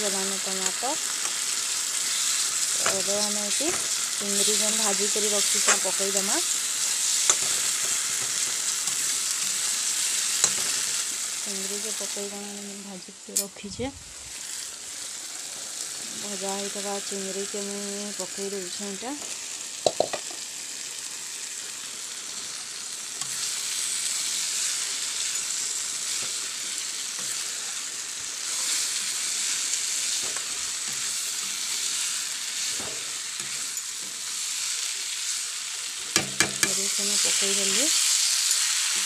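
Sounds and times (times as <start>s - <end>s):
prawns sizzling in hot oil: 0.0s - 39.0s.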